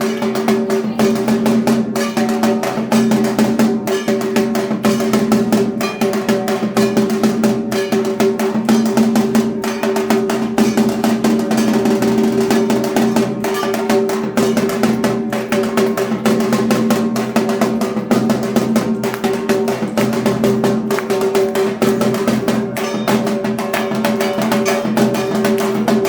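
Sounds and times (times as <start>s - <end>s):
barrel drum beaten with sticks: 0.0s - 26.0s.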